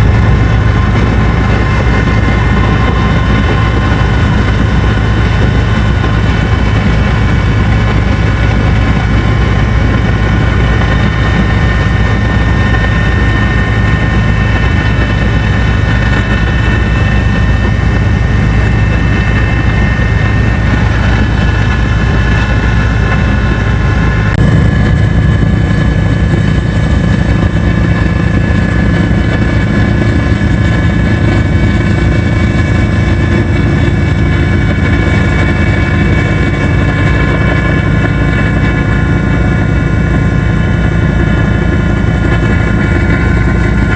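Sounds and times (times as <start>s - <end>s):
helicopter rotor and turbine drone: 0.0s - 43.9s.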